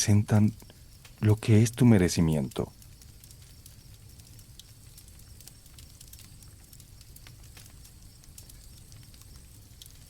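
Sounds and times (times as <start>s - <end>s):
campfire crackling: 0.0s - 10.0s
crickets chirping: 0.0s - 10.0s.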